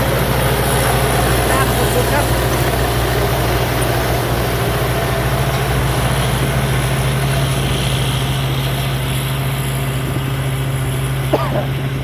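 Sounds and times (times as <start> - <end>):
combine harvester engine droning: 0.0 - 12.0.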